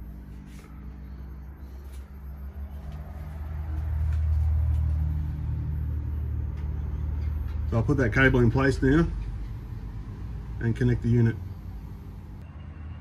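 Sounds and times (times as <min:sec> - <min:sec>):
inverter electrical hum: 0:00.0 - 0:12.6.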